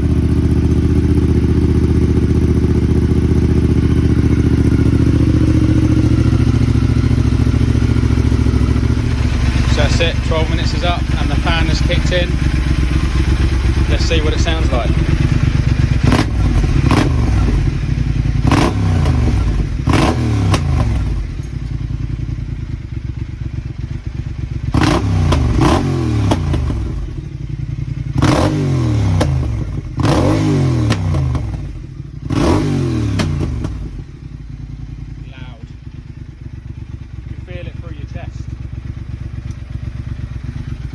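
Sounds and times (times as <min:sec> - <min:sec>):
motorcycle engine revving loudly: 0:00.0 - 0:40.9.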